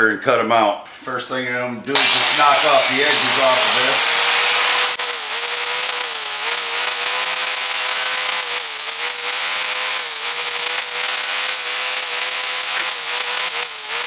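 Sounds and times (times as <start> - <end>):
angle grinder grinding steel: 2.0 - 14.0.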